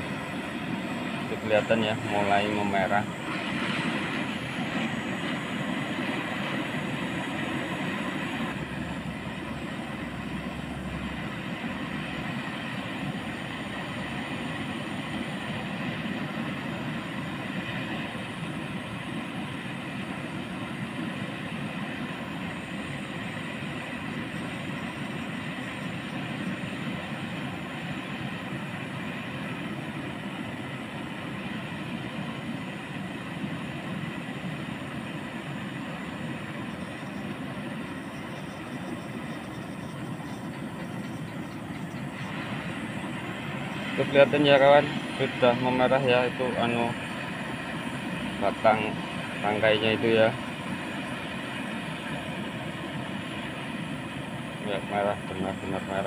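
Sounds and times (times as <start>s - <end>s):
gas torch flame hissing: 0.0s - 56.0s.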